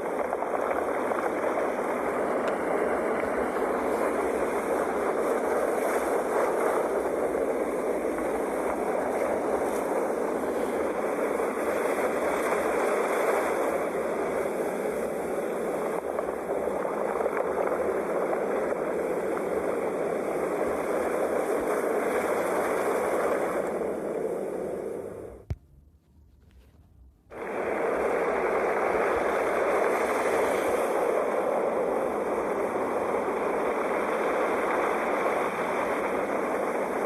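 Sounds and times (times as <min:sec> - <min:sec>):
waves washing: 0:00.0 - 0:25.2, 0:27.3 - 0:37.0.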